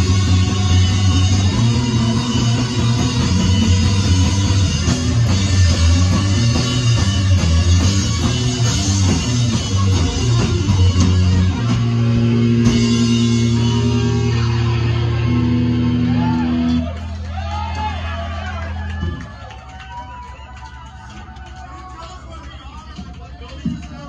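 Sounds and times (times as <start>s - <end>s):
drum kit: 0.0s - 19.5s
electric guitar: 0.0s - 19.6s
bass guitar: 0.0s - 24.0s.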